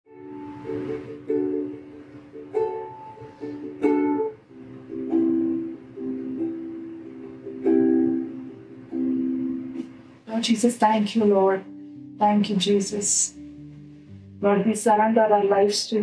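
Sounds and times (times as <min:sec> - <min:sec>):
ukulele chords: 0:00.1 - 0:16.0.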